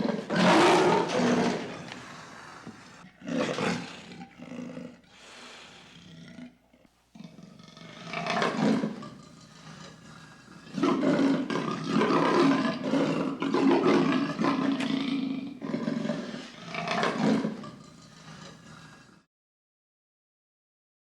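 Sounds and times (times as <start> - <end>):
lion roaring: 0.0 - 6.6, 7.2 - 19.2.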